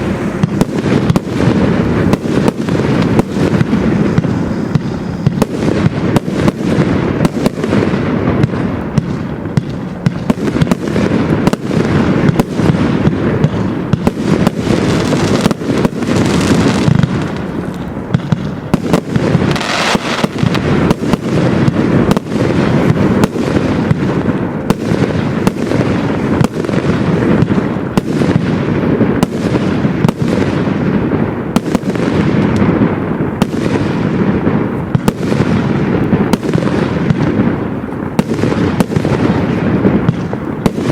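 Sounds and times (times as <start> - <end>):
firework bangs: 0.0 - 40.9
rumble of firework launches: 0.0 - 40.9.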